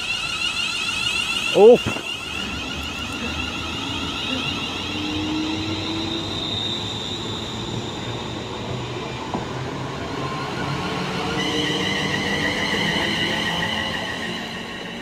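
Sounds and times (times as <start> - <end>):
electric train rumbling and whining: 0.0 - 15.0.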